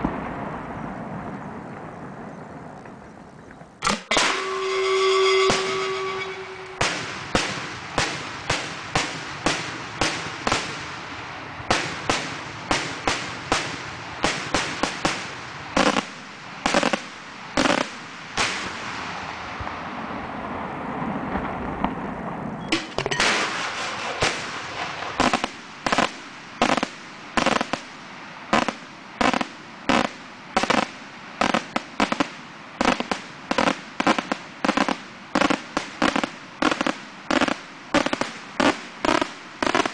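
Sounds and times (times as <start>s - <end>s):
continuous rushing noise: 0.0s - 39.9s
fireworks bangs: 0.0s - 39.9s.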